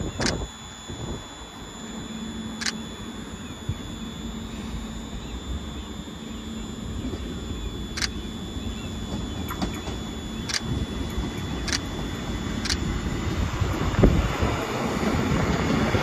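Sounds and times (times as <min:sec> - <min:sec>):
diesel train rumble: 0:00.0 - 0:16.0
faint steady hum: 0:00.0 - 0:16.0.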